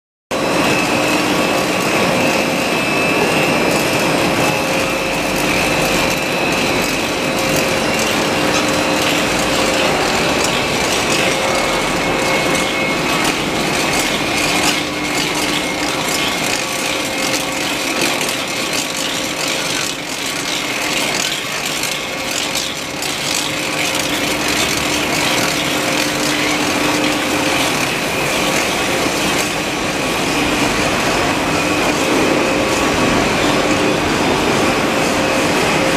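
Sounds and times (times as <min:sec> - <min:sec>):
machinery whining: 0:00.4 - 0:35.9.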